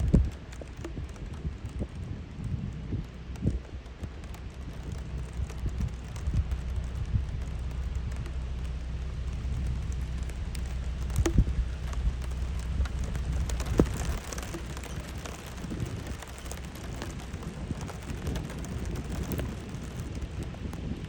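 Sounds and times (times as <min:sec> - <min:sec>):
rain falling: 0:00.0 - 0:21.0
wind rumbling on microphone: 0:00.0 - 0:21.0.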